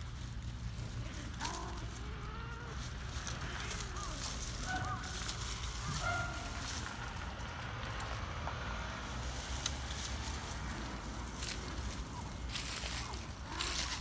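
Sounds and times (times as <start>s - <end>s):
dry leaves rustling and crackling: 0.0s - 14.0s
steady low rumble: 0.0s - 14.0s.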